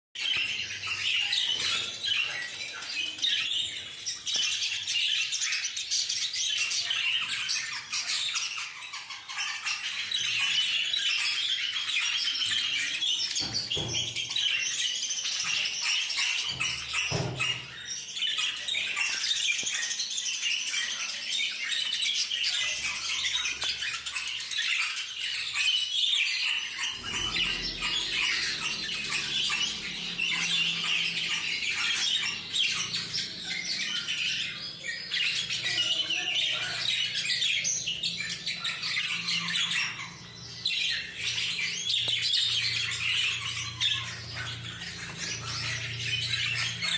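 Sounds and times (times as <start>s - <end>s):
parakeets chattering and squawking: 0.2s - 46.9s.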